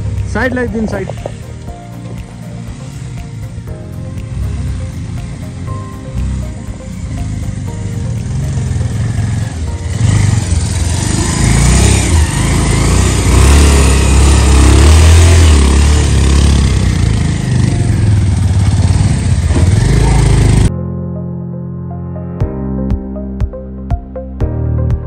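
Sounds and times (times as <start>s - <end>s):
motorcycles passing at low speed: 0.0s - 20.7s.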